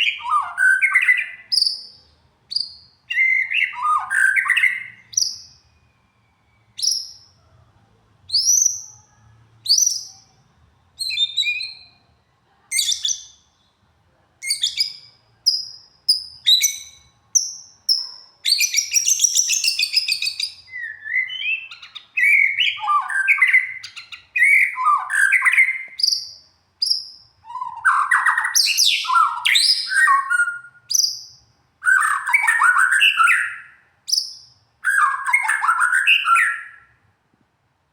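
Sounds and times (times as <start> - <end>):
songbird singing: 0.0 - 7.4, 8.3 - 13.8, 14.4 - 37.0.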